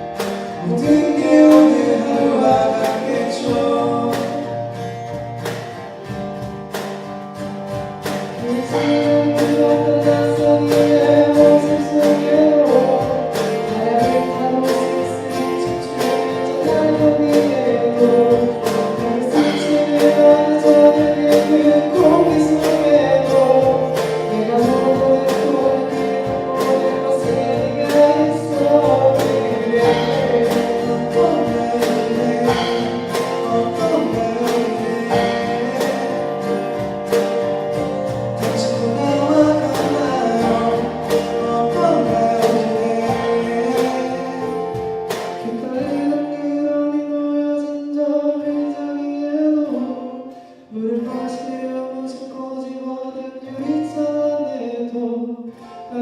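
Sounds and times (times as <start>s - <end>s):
person singing: 0.0s - 4.8s, 8.3s - 37.5s, 38.3s - 56.0s
acoustic guitar: 0.0s - 56.0s.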